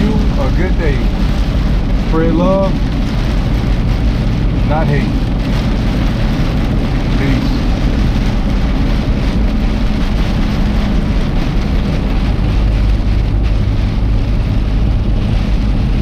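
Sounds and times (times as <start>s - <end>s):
rain on truck: 0.0s - 16.0s
truck road and engine drone: 0.0s - 16.0s.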